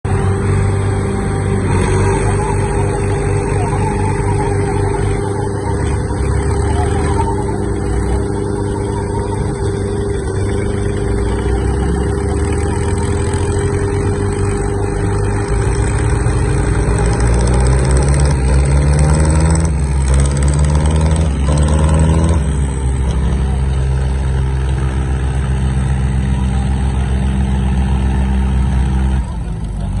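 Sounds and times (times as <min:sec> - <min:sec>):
tractor engines running under load: 0:00.0 - 0:30.0.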